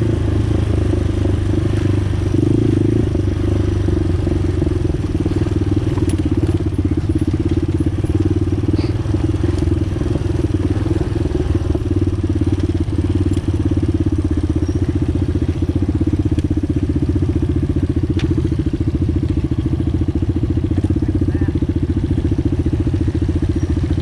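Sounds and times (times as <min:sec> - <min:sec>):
quad bike engine chugging: 0:00.0 - 0:24.0.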